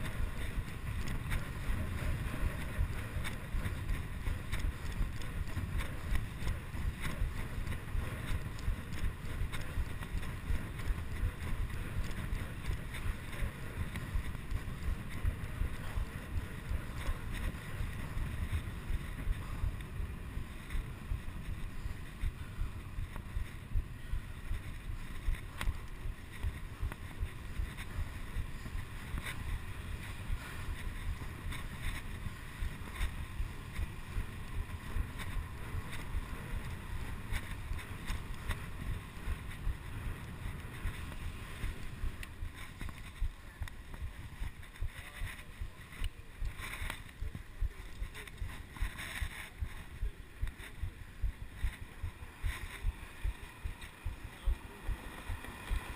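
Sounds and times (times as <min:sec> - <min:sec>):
wind buffeting camera: 0:00.0 - 0:55.9.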